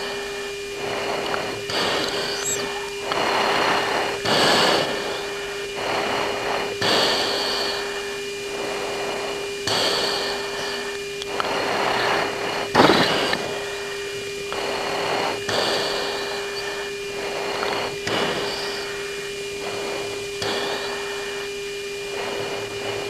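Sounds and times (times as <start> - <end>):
cockpit intercom hum: 0.0 - 6.8, 7.6 - 23.0
radio hiss bursts: 0.0 - 8.3, 8.9 - 23.0.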